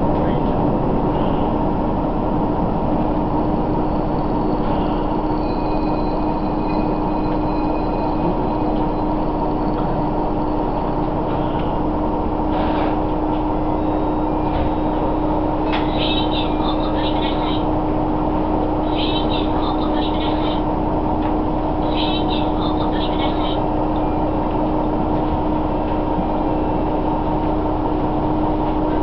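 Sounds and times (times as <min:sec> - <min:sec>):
railcar engine and rolling noise: 0:00.0 - 0:29.0.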